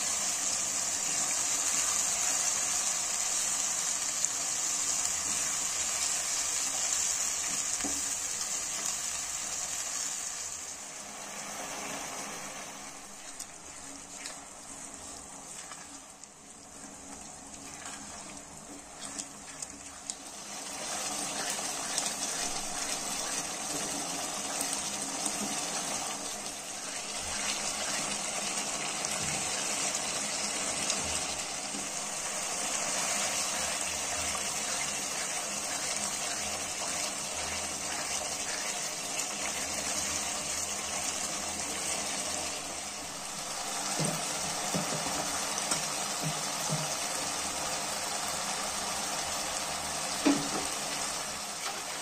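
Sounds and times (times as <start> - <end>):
meat sizzling in a pan: 0.0 - 52.0.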